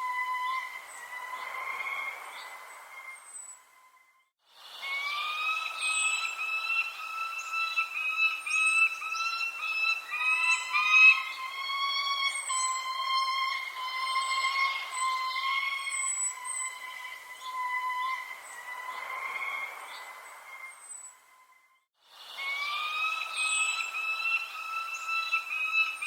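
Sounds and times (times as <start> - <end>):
whistling tones: 0.0 - 21.8, 22.4 - 26.0
birds chirping: 0.0 - 26.0
soft hiss: 0.0 - 26.0.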